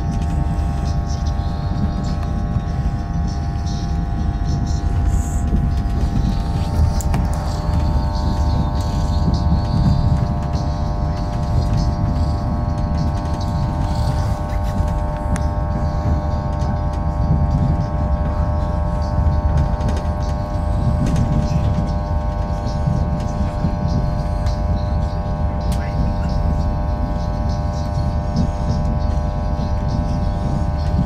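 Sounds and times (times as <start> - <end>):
constant multi-tone hum: 0.0 - 31.0
train running rumble: 0.0 - 31.0.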